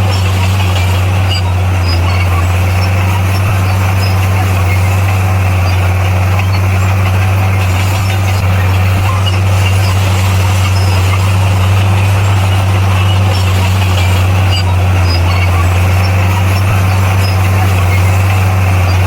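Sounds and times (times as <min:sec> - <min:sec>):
bulldozer diesel engine droning: 0:00.0 - 0:19.0.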